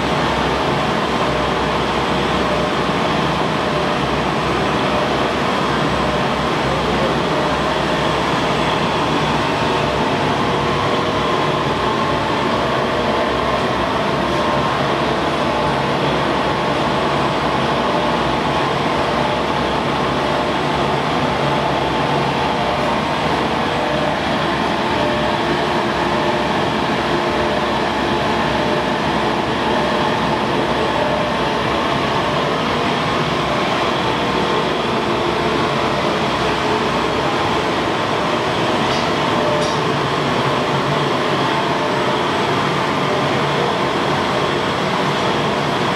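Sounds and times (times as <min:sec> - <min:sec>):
printing press running: 0:00.0 - 0:45.9.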